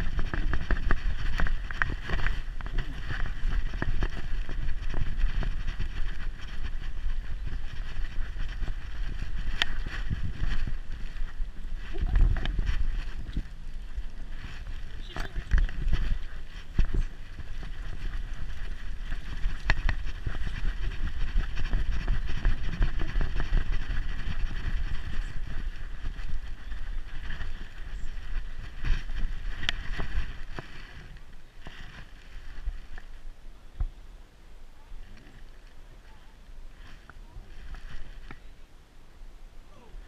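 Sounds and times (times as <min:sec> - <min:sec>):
camera handling rumble: 0:00.0 - 0:33.1.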